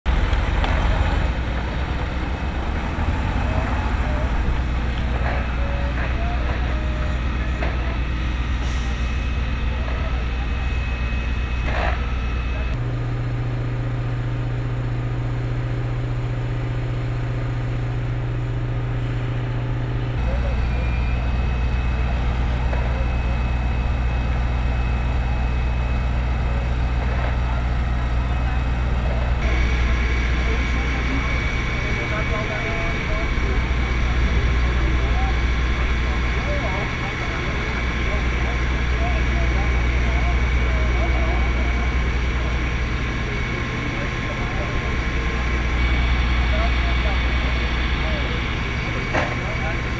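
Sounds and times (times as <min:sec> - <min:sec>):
fire engine running: 0:00.1 - 0:49.9
high whine: 0:00.1 - 0:49.9.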